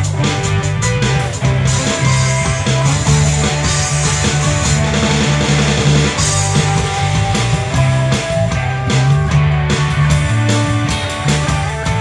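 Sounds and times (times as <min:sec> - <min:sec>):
drums: 0:00.0 - 0:12.0
electric guitar: 0:00.0 - 0:12.0
low bass notes: 0:00.0 - 0:12.0.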